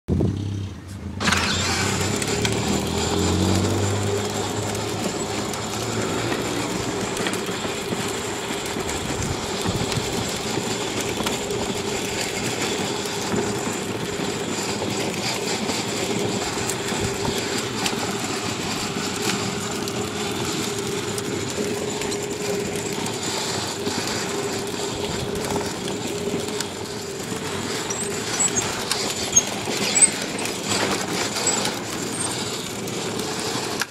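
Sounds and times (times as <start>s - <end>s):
plastic wheels rolling on pavement: 0.2s - 33.9s
toy car electric motor whine: 1.2s - 33.9s.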